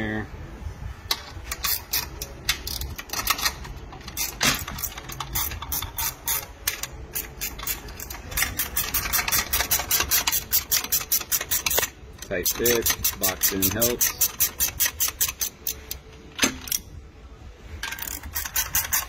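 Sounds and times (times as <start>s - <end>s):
ratchet wrench clicking: 1.1s - 16.8s, 17.8s - 19.0s.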